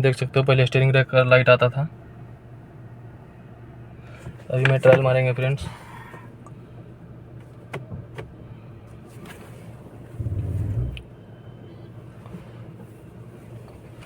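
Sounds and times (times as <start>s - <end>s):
diesel engine running at low revs: 1.8s - 14.0s.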